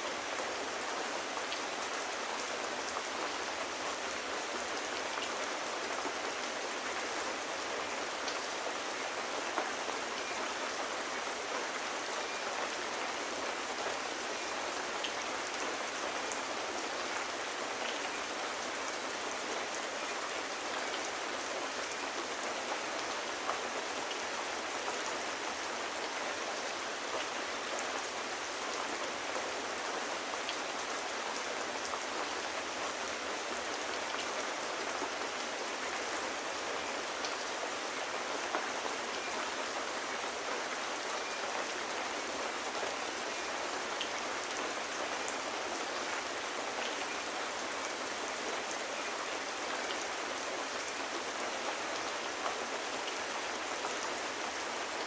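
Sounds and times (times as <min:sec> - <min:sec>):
gentle rain falling: 0:00.0 - 0:55.0.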